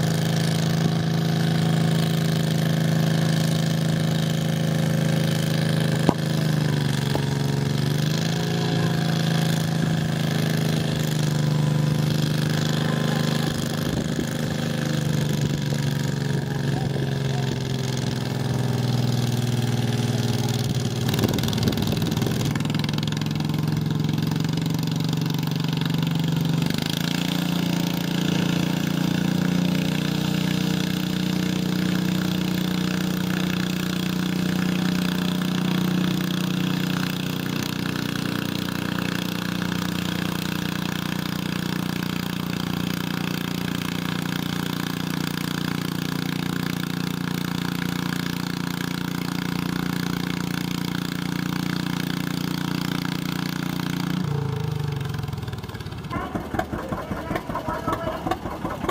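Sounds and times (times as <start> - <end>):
tractor engine under load: 0.0 - 58.9.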